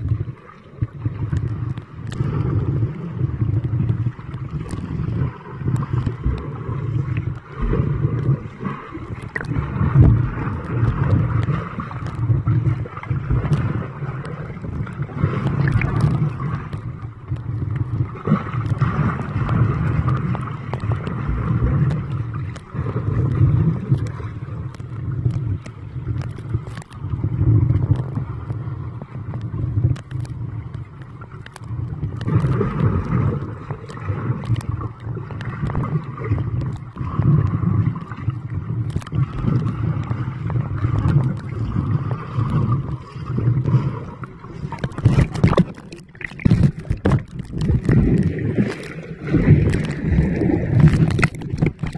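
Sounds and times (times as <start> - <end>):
underwater rumble and sloshing: 0.0 - 51.9
faint clicks: 1.2 - 2.7, 3.5 - 51.9.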